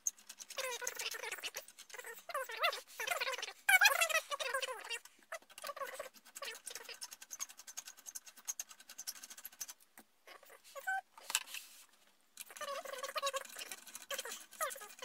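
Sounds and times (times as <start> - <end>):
plastic and metal rattling: 0.0 - 9.8, 12.4 - 15.0.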